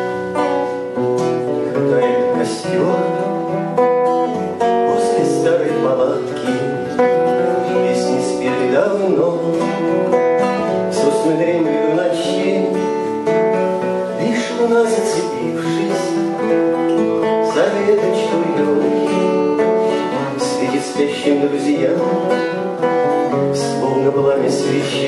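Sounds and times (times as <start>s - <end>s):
acoustic guitar strumming: 0.0s - 25.0s
person singing: 4.3s - 10.0s, 10.6s - 25.0s.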